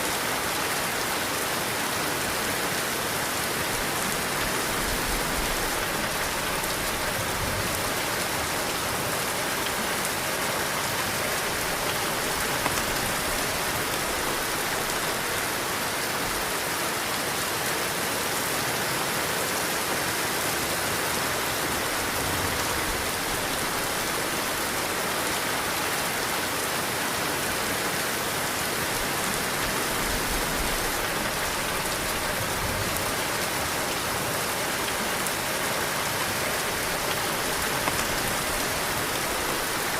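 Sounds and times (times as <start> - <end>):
heavy rain falling: 0.0 - 39.9
low gusts of wind: 0.0 - 39.9.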